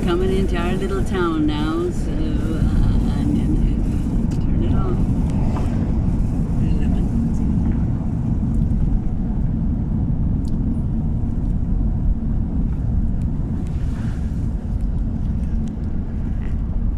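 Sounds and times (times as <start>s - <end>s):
car engine and tyre rumble: 0.0s - 16.9s.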